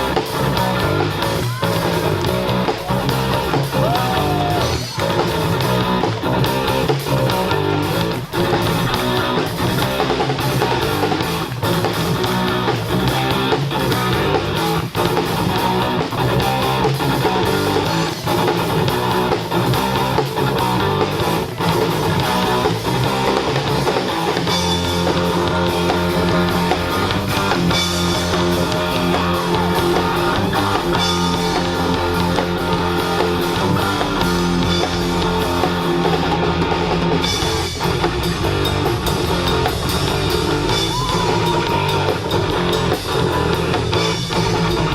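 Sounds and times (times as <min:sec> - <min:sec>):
bass guitar: 0:00.0 - 0:44.9
drum kit: 0:00.0 - 0:44.9
electric guitar: 0:00.0 - 0:44.9.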